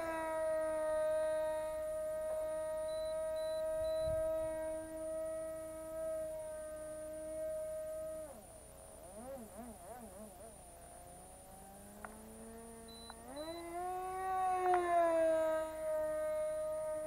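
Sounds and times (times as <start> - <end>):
model aircraft engine whining: 0.0 - 17.0.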